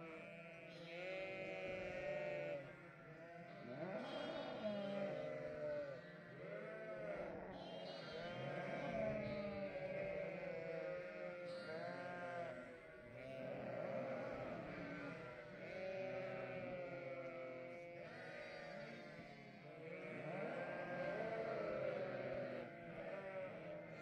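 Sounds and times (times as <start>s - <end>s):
sheep and lambs bleating: 0.0s - 24.0s.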